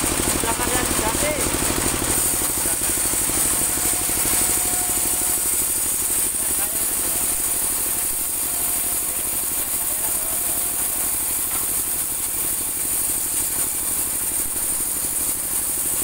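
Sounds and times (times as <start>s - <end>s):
sawmill engine chugging: 0.0s - 16.0s
high saw hiss: 0.6s - 16.0s.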